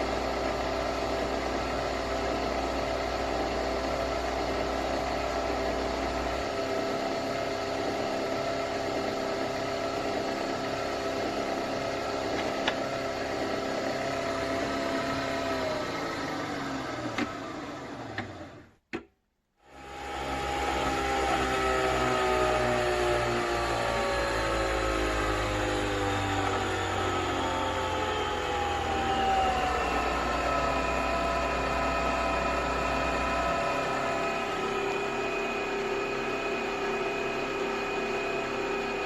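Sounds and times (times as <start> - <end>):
coffee machine humming: 0.0 - 18.6, 19.7 - 39.0.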